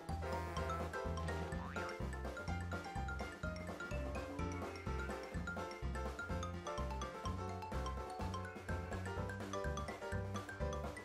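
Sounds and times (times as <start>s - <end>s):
music with bright notes and bass: 0.0s - 11.0s.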